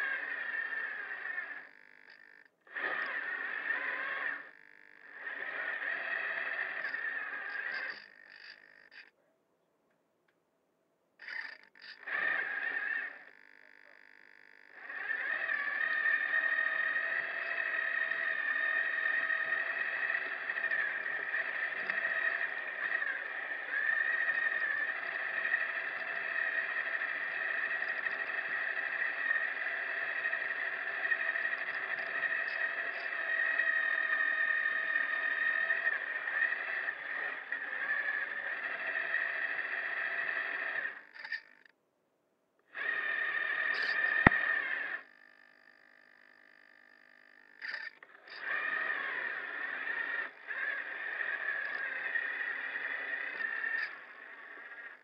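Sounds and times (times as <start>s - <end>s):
small electric motors whining: 0.0s - 9.2s, 11.2s - 41.8s, 42.6s - 55.0s.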